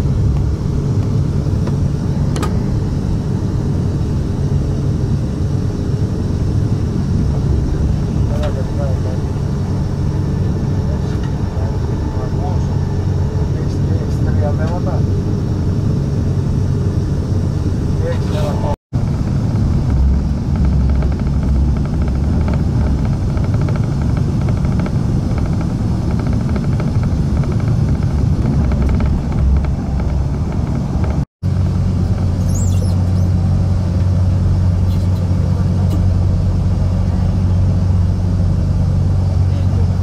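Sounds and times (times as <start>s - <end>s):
train rumble from inside car: 0.0s - 40.0s.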